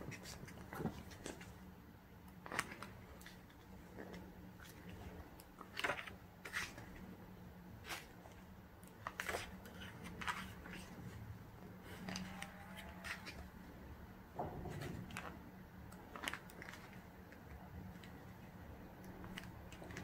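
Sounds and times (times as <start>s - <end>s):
book pages turning: 0.0s - 1.6s, 2.4s - 7.1s, 7.8s - 13.6s, 14.7s - 20.0s
faint low hum: 0.0s - 20.0s.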